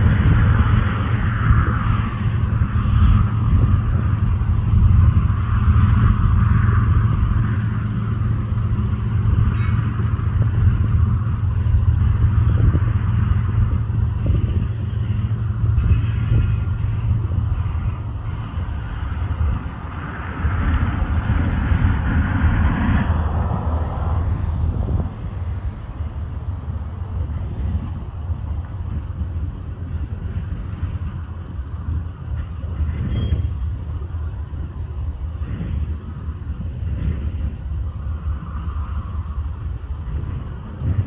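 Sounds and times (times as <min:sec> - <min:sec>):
jet engines at takeoff power: 0:00.0 - 0:41.0.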